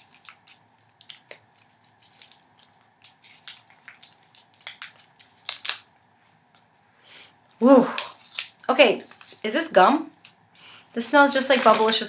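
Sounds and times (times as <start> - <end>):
candy wrapper crinkling: 0.0 - 6.7, 7.5 - 12.0.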